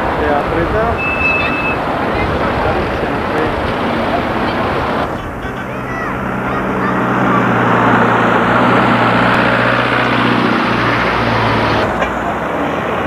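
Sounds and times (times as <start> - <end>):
road and traffic noise: 0.0 - 13.0
vehicle engine humming: 0.0 - 13.0.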